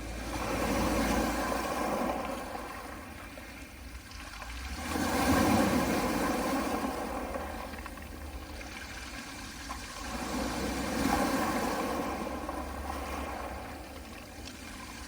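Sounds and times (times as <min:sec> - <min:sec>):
waves washing onto pebbles: 0:00.0 - 0:15.0.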